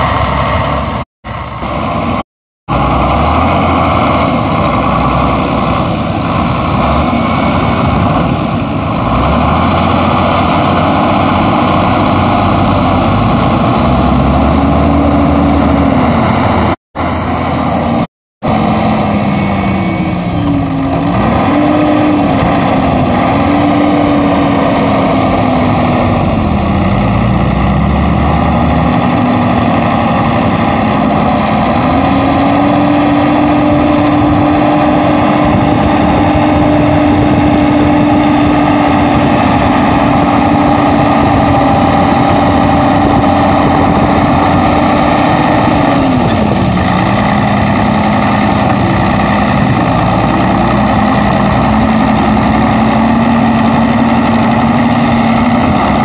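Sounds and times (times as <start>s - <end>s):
front loader diesel engine running: 0.0s - 56.0s.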